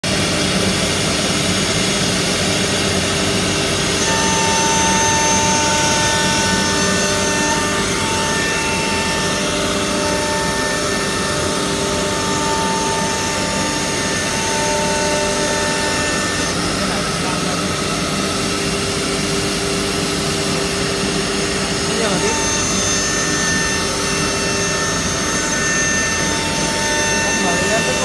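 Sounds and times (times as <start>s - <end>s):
high spindle whine: 0.1s - 28.0s
wood router rushing noise: 0.1s - 28.0s.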